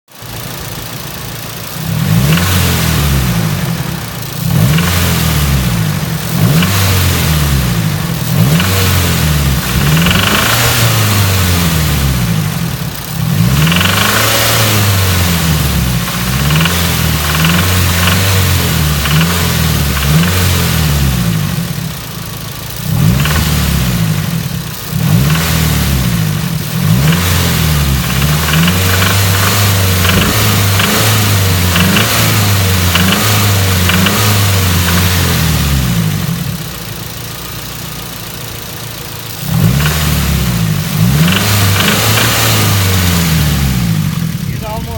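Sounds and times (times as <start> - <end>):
car engine revving: 0.1 - 44.9.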